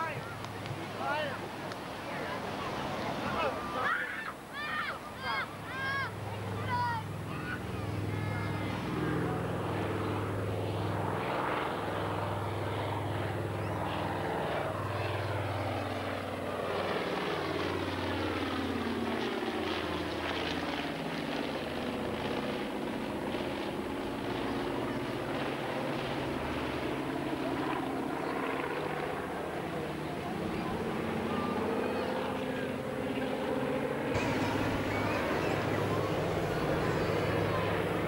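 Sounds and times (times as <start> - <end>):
propeller plane engines droning: 0.0 - 38.0.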